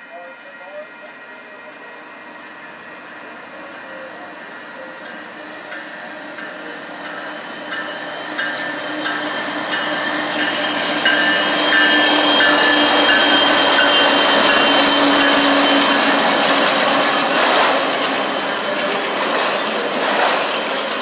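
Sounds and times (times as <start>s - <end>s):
freight train passing: 0.0s - 21.0s.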